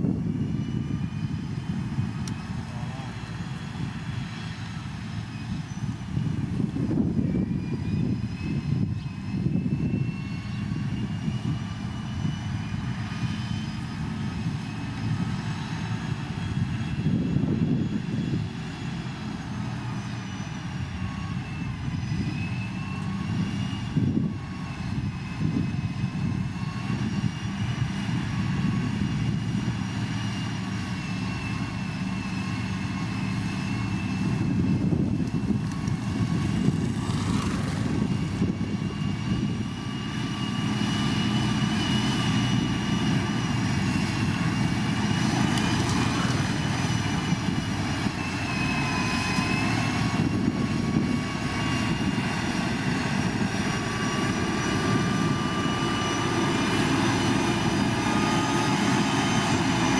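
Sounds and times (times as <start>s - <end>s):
diesel engine drone: 0.0s - 59.9s
higher wavering whine: 0.0s - 59.9s.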